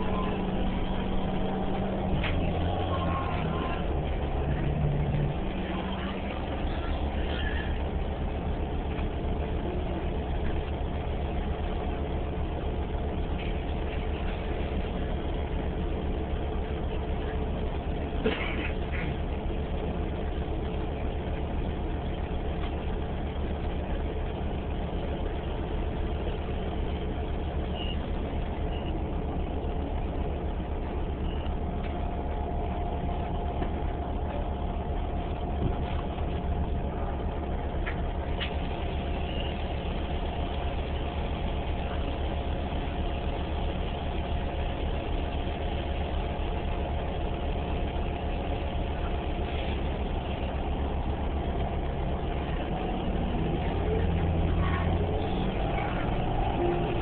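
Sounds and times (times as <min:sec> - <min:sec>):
bus engine drone: 0:00.0 - 0:57.0
faint steady whine: 0:00.0 - 0:57.0.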